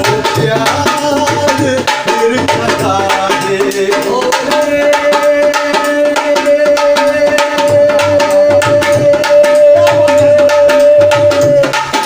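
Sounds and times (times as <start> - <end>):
hand drumming fast rhythm: 0.0 - 12.0.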